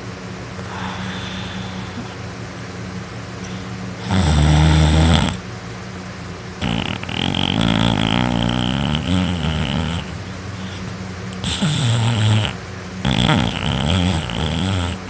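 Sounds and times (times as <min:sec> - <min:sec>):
steady low hum: 0:00.0 - 0:15.0
person snoring loudly: 0:00.6 - 0:02.2, 0:03.4 - 0:05.4, 0:06.6 - 0:15.0.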